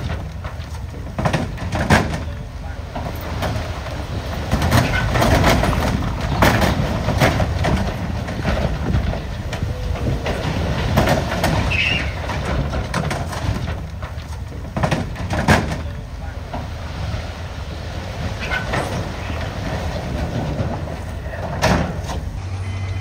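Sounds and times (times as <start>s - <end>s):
soil and rocks sliding: 0.0s - 22.4s
truck engine rumbling: 0.0s - 23.0s.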